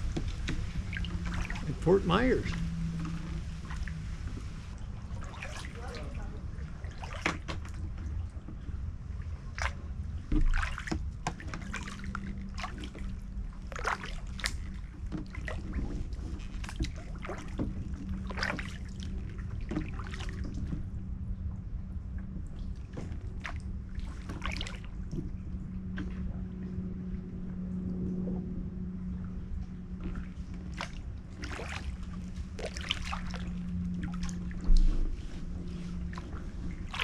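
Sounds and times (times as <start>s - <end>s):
paddle splashing in water: 0.0s - 21.0s, 22.6s - 26.6s, 29.4s - 37.0s
steady low hum: 0.0s - 37.0s.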